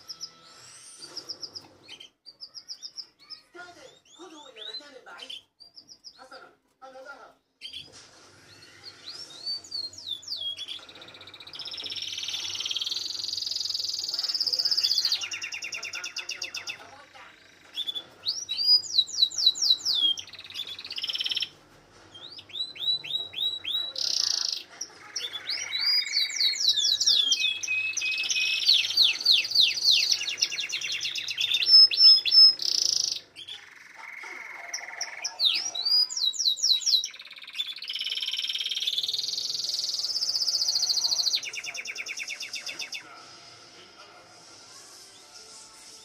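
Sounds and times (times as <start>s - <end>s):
canary singing trills: 0.0s - 6.4s, 8.5s - 43.0s.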